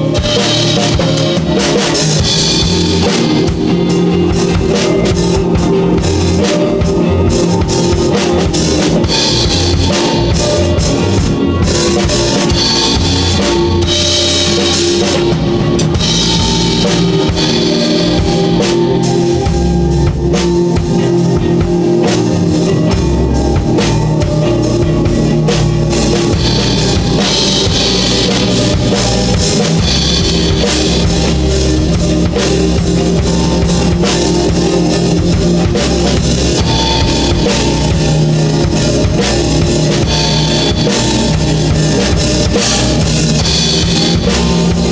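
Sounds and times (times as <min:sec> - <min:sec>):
bass: 0:00.0 - 0:44.9
drum kit beat: 0:00.0 - 0:44.9
guitar: 0:00.0 - 0:44.9.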